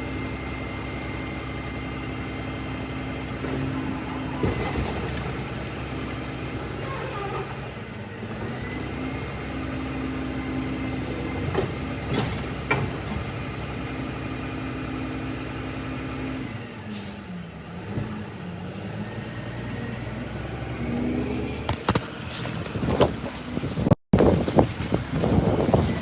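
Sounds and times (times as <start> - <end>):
garbage truck diesel engine: 0.0 - 26.0.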